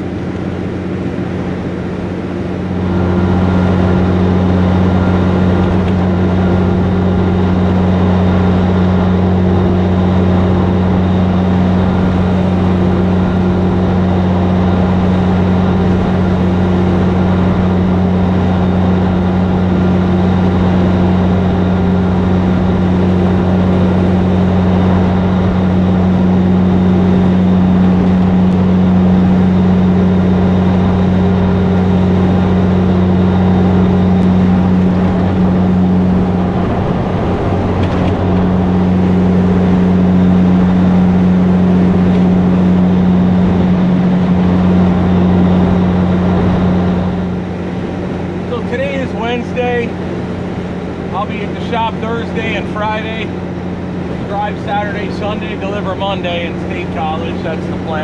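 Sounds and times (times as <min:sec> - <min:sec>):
diesel truck engine cruising: 0:00.0 - 0:58.0
road noise: 0:00.0 - 0:58.0.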